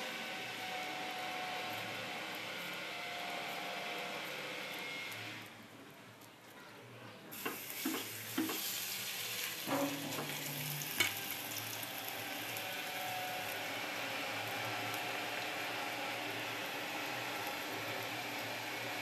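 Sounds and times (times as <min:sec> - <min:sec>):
batter frying in oil: 0:00.0 - 0:05.6, 0:07.3 - 0:19.0.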